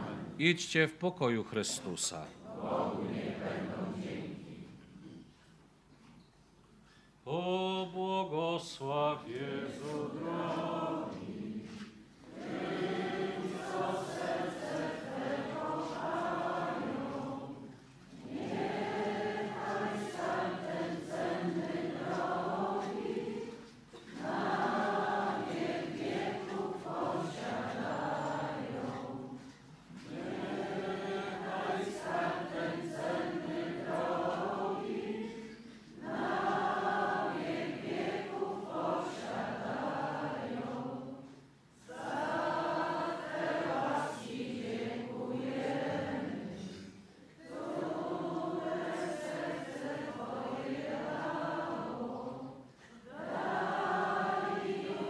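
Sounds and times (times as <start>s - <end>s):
group singing a hymn: 0.0s - 0.4s, 2.4s - 5.2s, 7.3s - 55.0s.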